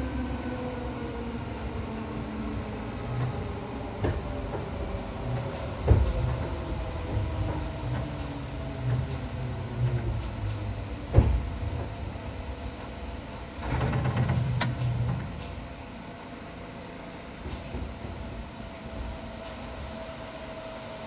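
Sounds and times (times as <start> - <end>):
train interior running noise: 0.0 - 21.0.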